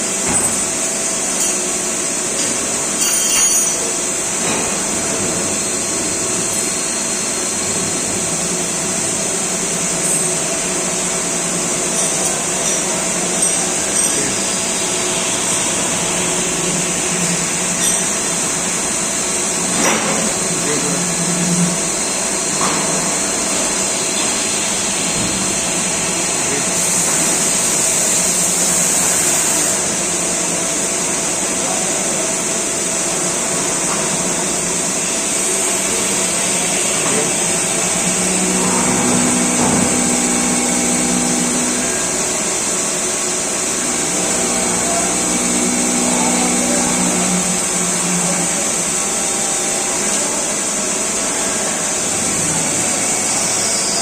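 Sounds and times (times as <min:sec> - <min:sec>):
workshop machinery hum and hiss: 0:00.0 - 0:54.0.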